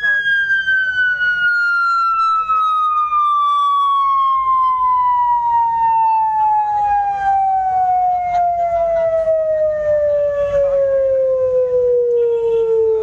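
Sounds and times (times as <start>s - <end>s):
tone gliding down in pitch: 0.0s - 13.0s.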